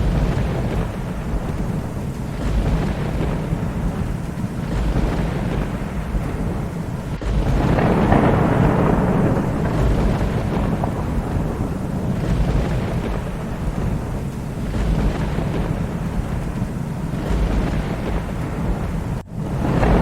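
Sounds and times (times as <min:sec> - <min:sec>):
rain: 0:00.0 - 0:20.0
thunder rumbling: 0:00.0 - 0:20.0.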